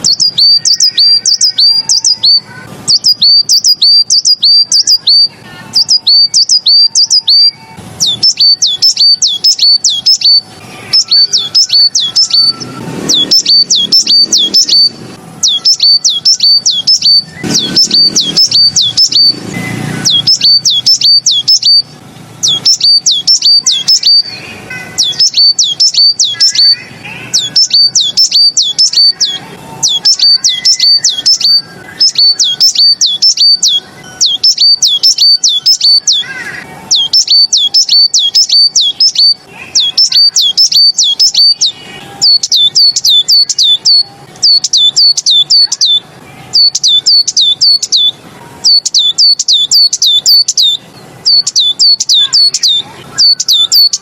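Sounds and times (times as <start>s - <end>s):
songbird singing rapid chirps: 0.0s - 54.0s.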